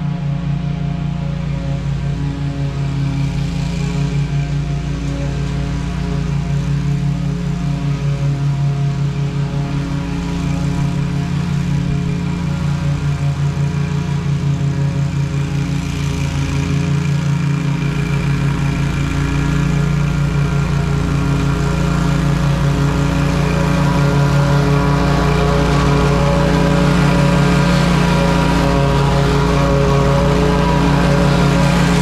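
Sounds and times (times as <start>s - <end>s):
blades cutting grass: 0.0s - 32.0s
mower engine running: 0.0s - 32.0s.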